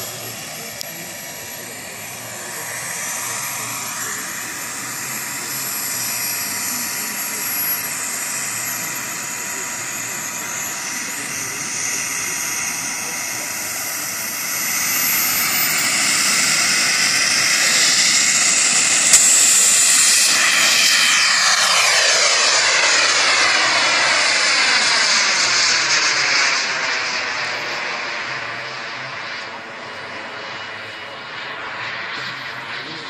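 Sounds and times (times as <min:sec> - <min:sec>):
model jet turbine whining: 0:00.0 - 0:33.0.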